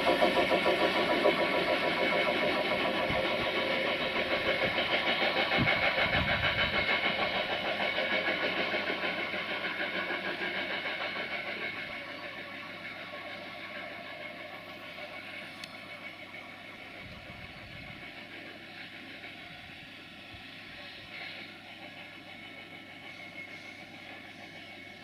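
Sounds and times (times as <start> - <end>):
train wheels rattling on rails: 0.0 - 25.0.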